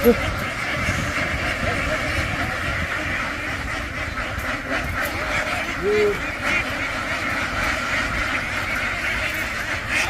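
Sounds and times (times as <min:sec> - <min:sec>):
flock of ducks quacking: 0:00.0 - 0:10.0
loud drawn-out duck call: 0:00.0 - 0:10.0.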